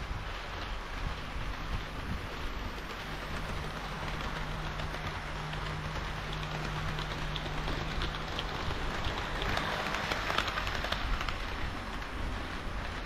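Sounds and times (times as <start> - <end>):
model train wheels rushing: 0.0 - 13.0
clicks over rail joints: 0.4 - 13.0.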